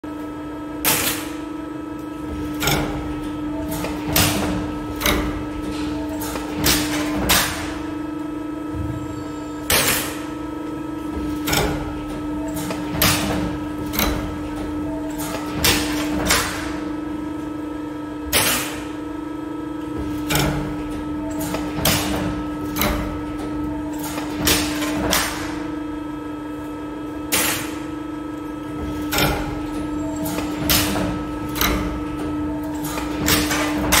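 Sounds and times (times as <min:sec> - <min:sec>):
hydraulic unit humming: 0:00.0 - 0:34.0.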